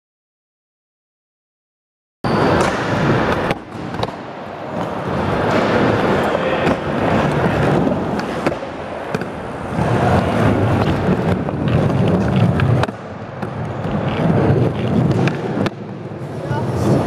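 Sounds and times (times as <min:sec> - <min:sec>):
skateboard wheels rolling on concrete: 0:02.3 - 0:17.0
skateboard clacks: 0:02.5 - 0:17.0.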